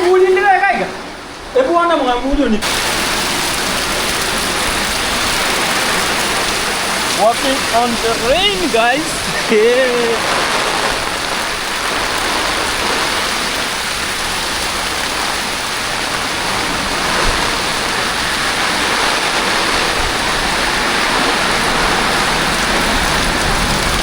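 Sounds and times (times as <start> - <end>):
heavy rain hissing: 0.0 - 24.0
runoff water running: 0.0 - 24.0.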